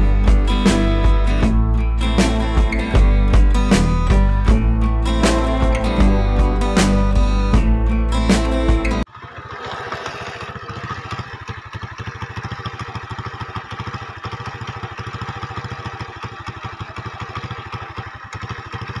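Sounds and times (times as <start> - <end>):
engine chugging: 0.0 - 19.0.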